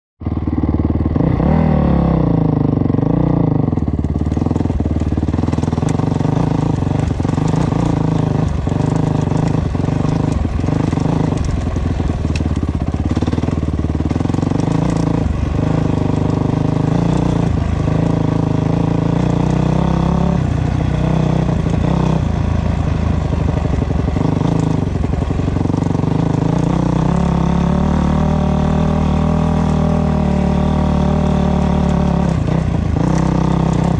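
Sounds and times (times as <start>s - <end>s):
dirt bike engine revving: 0.3s - 33.9s.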